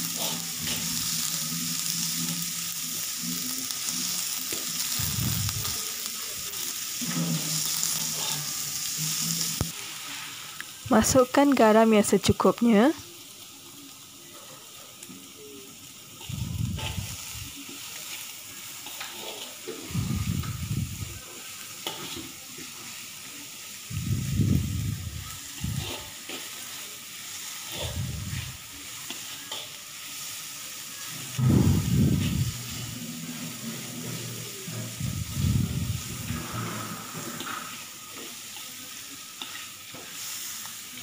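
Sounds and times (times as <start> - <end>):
spatula scraping wok: 0.0 - 10.6, 16.1 - 23.0, 24.0 - 40.8
faint sizzle: 0.0 - 41.0.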